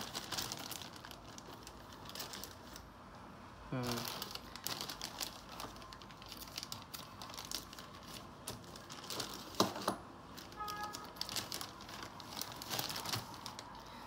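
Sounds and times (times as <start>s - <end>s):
plastic bag crinkling: 0.0s - 2.8s, 3.8s - 14.0s.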